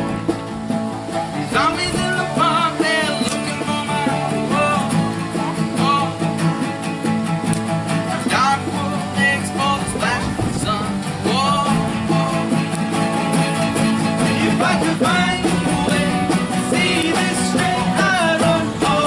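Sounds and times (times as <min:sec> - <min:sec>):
guitars: 0:00.0 - 0:19.0
rock band playing live: 0:00.0 - 0:19.0
person singing: 0:01.3 - 0:06.8, 0:08.0 - 0:13.0, 0:14.0 - 0:19.0.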